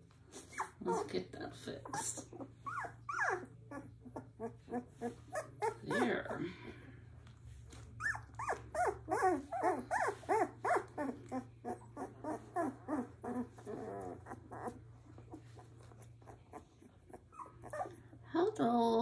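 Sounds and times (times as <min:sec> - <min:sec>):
puppy whining: 0:00.2 - 0:01.1, 0:01.8 - 0:06.8, 0:07.7 - 0:18.3.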